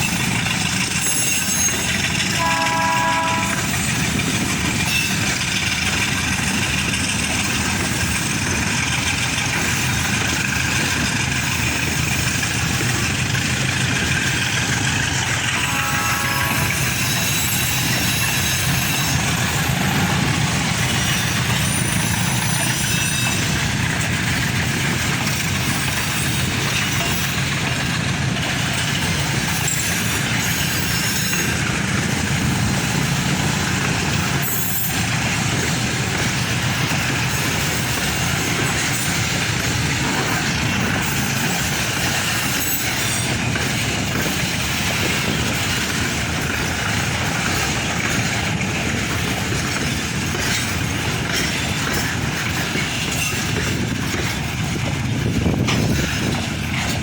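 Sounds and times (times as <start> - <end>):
diesel locomotive engine rumble: 0.0 - 57.0
freight train passing: 0.0 - 57.0.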